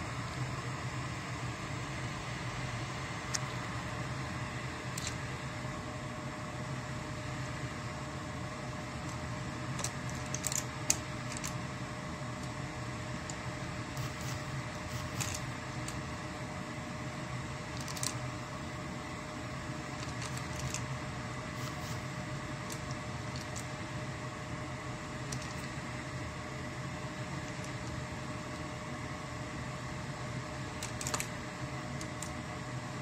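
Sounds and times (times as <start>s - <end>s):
steady machine hum: 0.0s - 33.0s.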